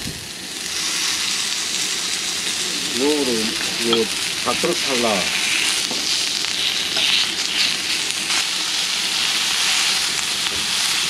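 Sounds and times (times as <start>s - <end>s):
beef sizzling on a griddle: 0.0s - 11.0s.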